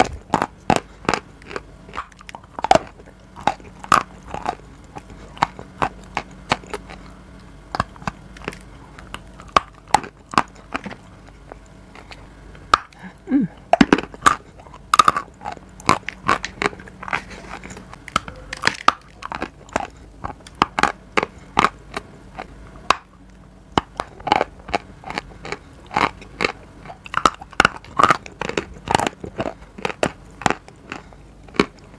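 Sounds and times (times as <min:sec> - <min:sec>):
crunching clay being chewed: 0:00.0 - 0:31.9.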